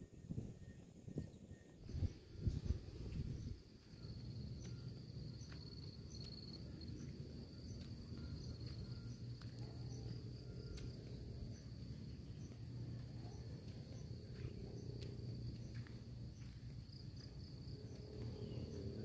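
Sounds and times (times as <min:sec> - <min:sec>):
insects trilling: 0:00.6 - 0:19.0.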